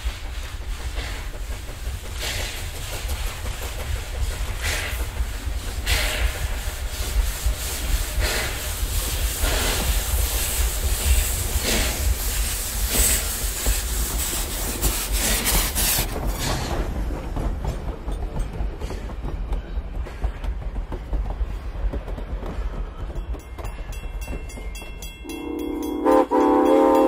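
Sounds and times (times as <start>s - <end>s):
low train rumble: 0.0s - 27.0s
steam locomotive chuffing: 0.0s - 27.0s.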